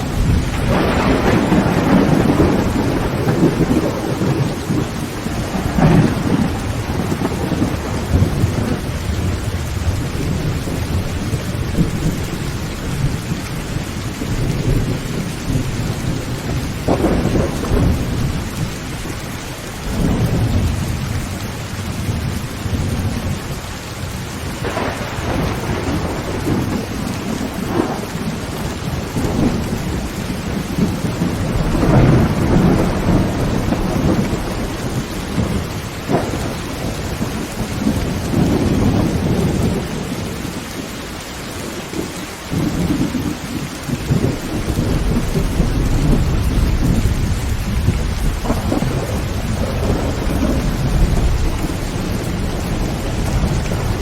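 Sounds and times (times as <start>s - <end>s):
heavy rain on a tin roof: 0.0s - 54.0s
thunder rumbling: 0.0s - 54.0s.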